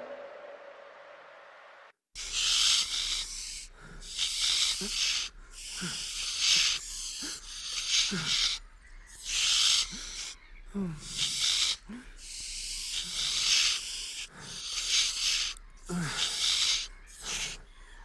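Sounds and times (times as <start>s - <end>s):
owl chicks hissing begging calls: 2.2s - 18.0s.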